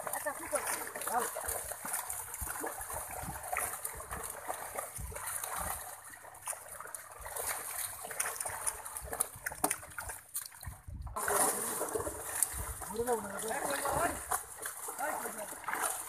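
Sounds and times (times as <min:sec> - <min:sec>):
fish thrashing and splashing: 0:00.0 - 0:16.0.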